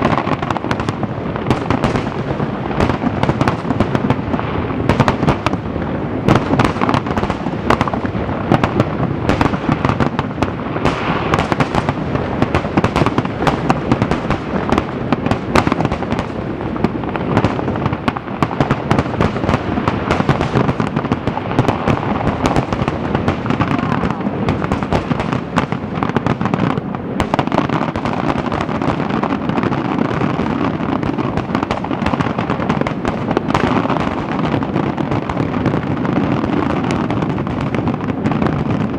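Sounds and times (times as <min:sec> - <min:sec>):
fireworks bangs: 0:00.0 - 0:38.9
fireworks rumble: 0:00.0 - 0:38.9.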